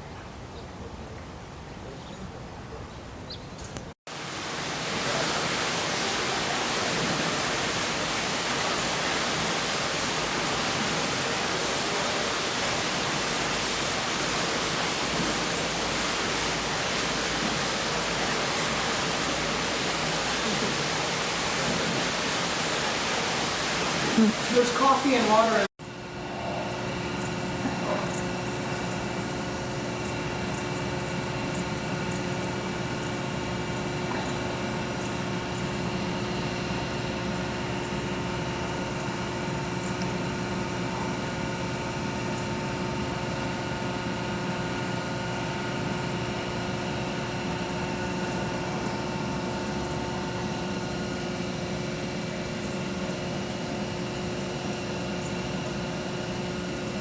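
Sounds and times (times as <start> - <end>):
machine hum with tones: 3.4 - 57.0.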